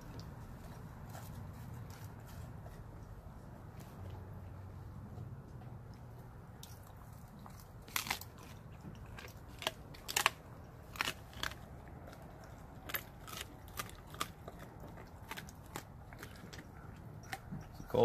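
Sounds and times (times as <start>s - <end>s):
dog crunching bones: 0.0s - 4.6s, 5.2s - 18.0s.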